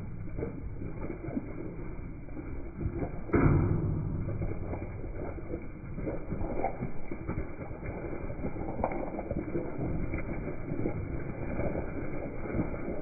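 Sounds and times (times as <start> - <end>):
sheep hooves on wet grass: 0.0 - 13.0.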